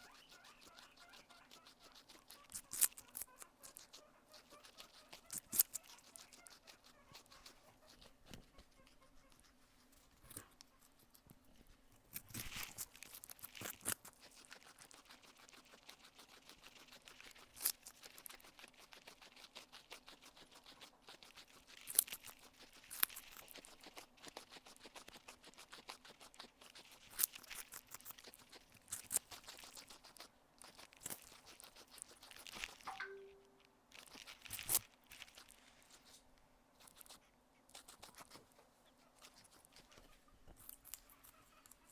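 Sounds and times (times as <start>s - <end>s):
guinea pig chewing food: 0.0s - 41.9s.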